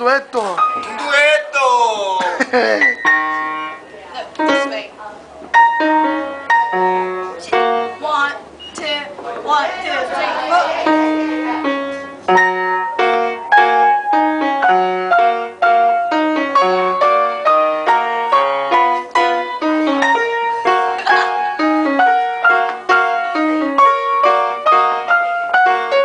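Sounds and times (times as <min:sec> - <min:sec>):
piano duet: 0:00.0 - 0:01.6, 0:02.4 - 0:26.0.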